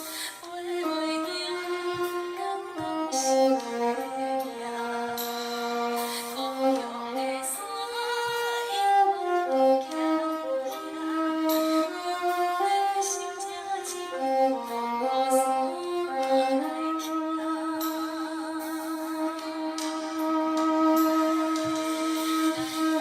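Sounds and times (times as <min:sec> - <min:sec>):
flute melody: 0:00.0 - 0:23.0
violin melody: 0:00.0 - 0:23.0.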